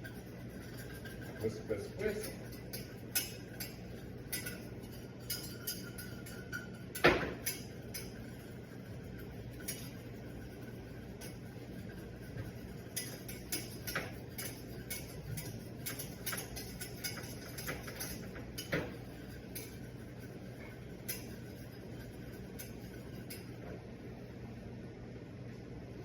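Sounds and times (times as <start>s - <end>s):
whisk scraping a saucepan: 0.0s - 23.6s.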